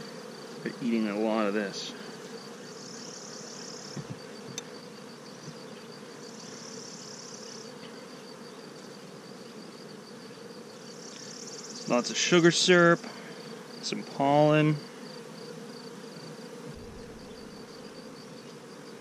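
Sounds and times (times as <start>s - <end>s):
honey bees buzzing: 0.0s - 19.0s.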